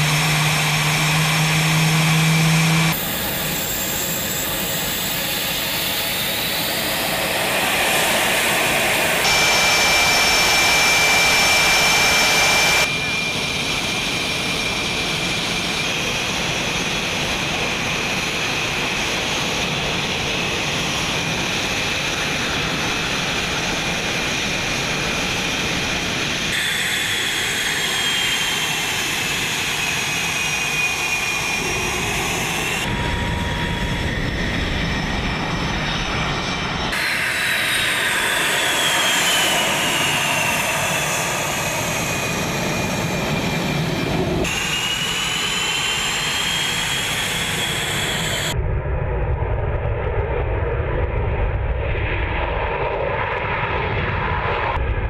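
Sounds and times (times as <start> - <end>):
jet engines roaring with turbine whine: 0.0 - 55.0.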